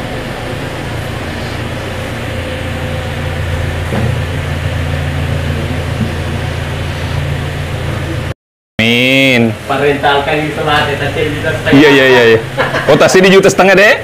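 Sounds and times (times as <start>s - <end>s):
car engine idling: 0.0s - 8.3s, 9.6s - 13.2s.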